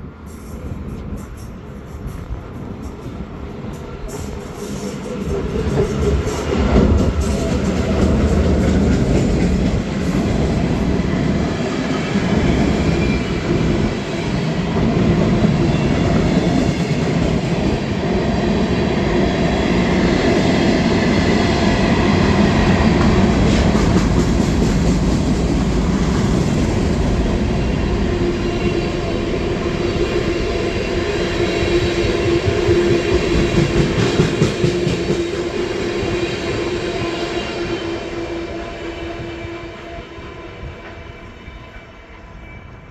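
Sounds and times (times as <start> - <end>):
train wheels clicking over rails: 0.3 - 37.7.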